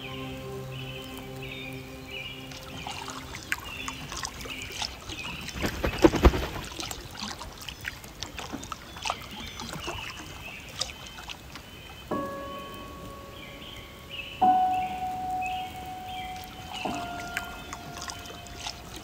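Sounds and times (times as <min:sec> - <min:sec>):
water dripping: 0:00.0 - 0:19.0
water splashing: 0:00.0 - 0:19.0.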